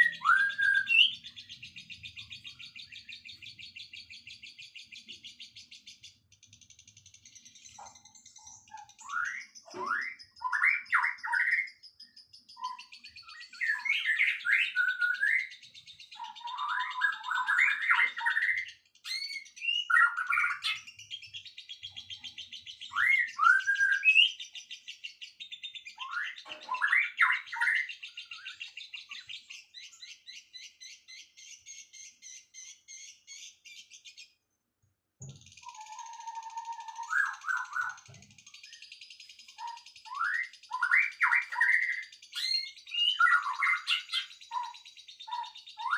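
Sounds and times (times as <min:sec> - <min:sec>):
songbird chirps and trill: 0:00.0 - 0:45.9.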